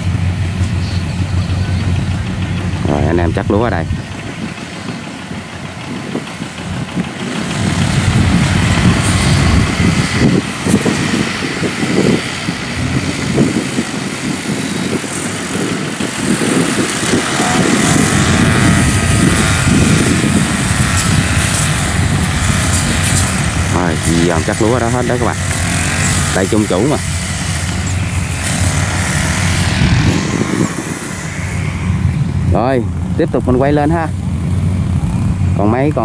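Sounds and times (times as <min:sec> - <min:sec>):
farm machine engine running: 0:00.0 - 0:36.0.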